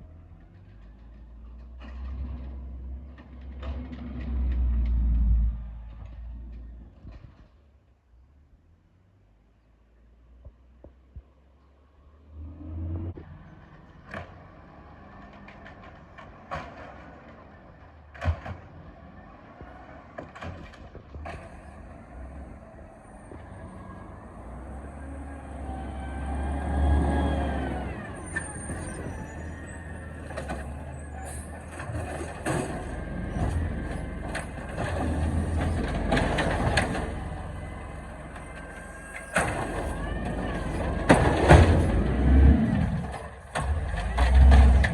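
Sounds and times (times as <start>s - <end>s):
truck engine revving: 0.0s - 7.3s, 12.0s - 44.9s.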